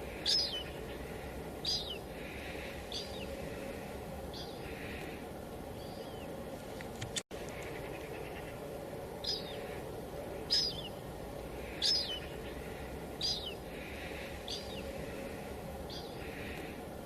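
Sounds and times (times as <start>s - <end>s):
light drizzle hissing: 0.0s - 17.0s.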